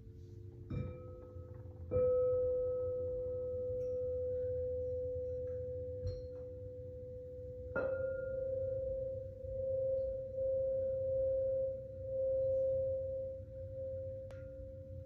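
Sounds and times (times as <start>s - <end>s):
struck metal instrument ringing: 0.7s - 15.0s.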